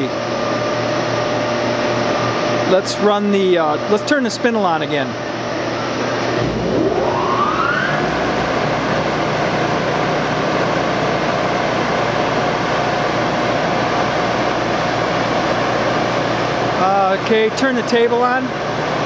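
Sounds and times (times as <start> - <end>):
grinder spindle whine and hum: 0.0 - 19.0.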